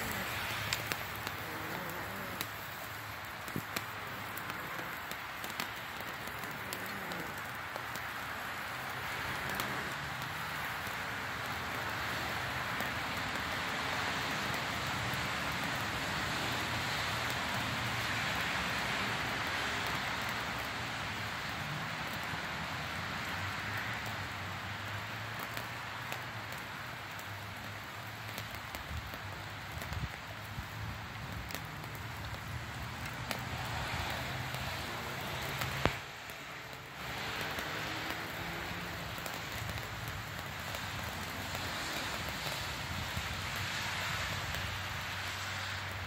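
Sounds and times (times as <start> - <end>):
sparklers fizzing and crackling: 0.0 - 46.0.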